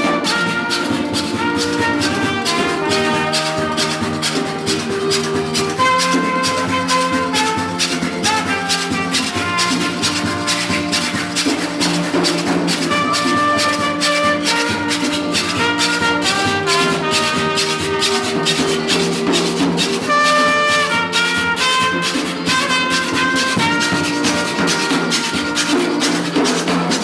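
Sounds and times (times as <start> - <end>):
held melody notes: 0.0 - 27.0
saw scraped with a blade: 0.0 - 27.0.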